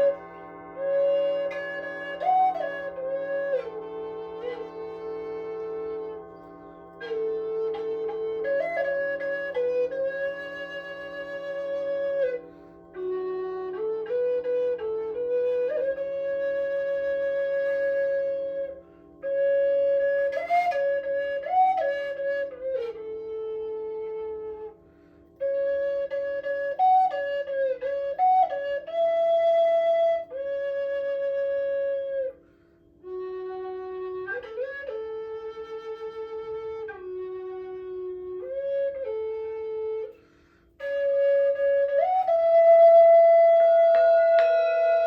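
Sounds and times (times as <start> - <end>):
flute playing long notes: 0.0 - 45.0.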